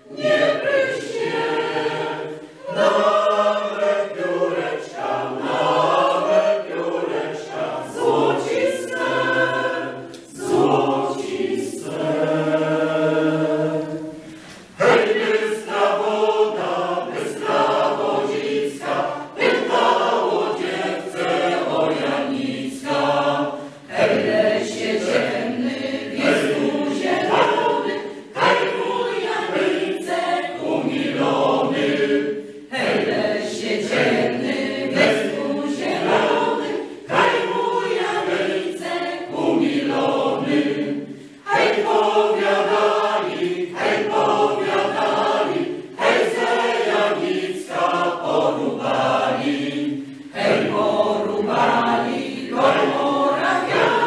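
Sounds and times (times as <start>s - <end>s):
mixed choir singing unaccompanied: 0.0s - 54.0s.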